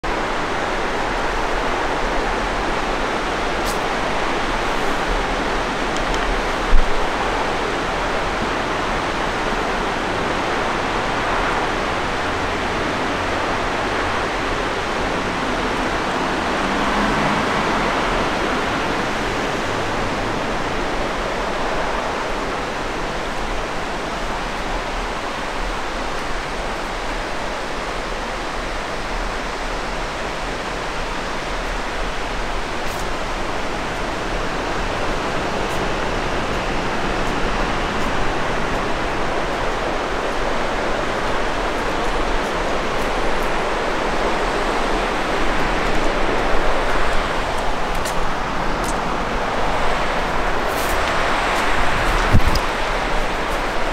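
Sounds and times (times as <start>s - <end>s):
river rushing: 0.0s - 53.9s.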